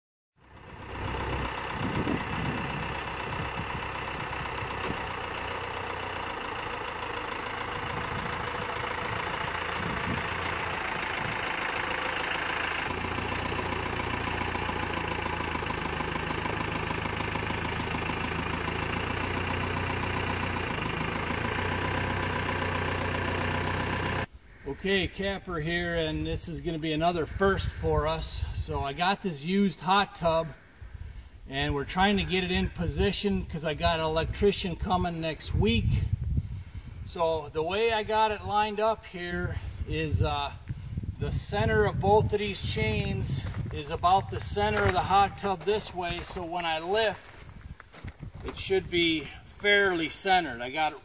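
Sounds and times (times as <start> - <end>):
tractor diesel engine idling: 0.4 - 51.0.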